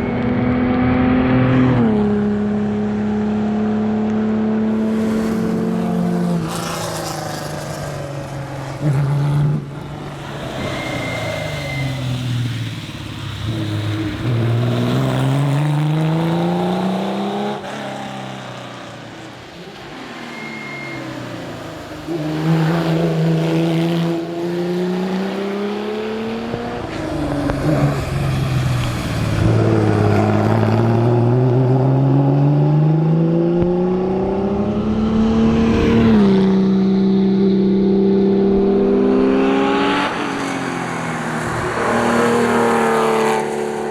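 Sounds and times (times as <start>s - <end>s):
race car engine accelerating: 0.0s - 43.9s.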